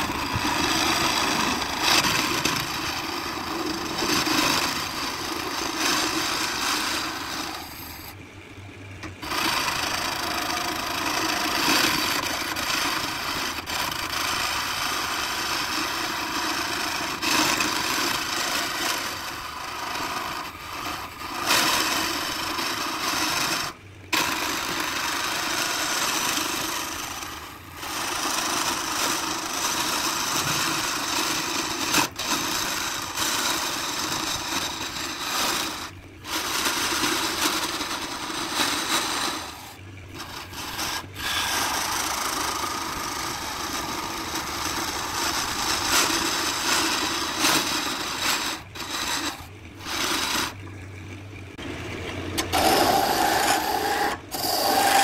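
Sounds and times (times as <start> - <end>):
gouge scraping on lathe: 0.0 - 8.1, 9.2 - 50.6, 52.4 - 55.0
lathe motor hum: 0.0 - 8.2, 9.0 - 50.6, 52.4 - 55.0.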